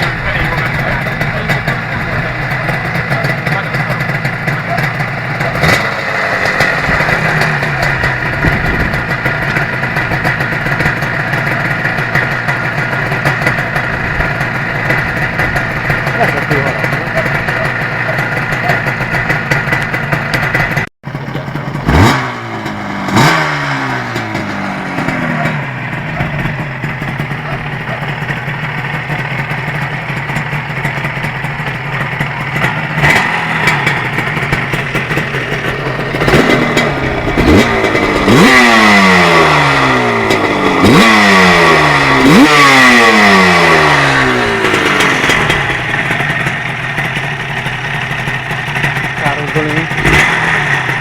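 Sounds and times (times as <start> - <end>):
motorcycle engine idling and revving: 0.0 - 51.0.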